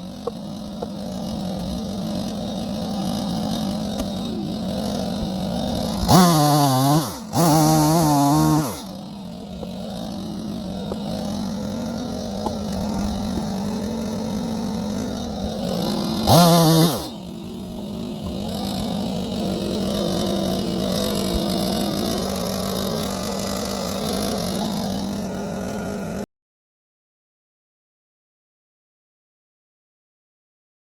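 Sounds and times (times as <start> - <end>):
chainsaw running and revving: 0.0 - 26.3.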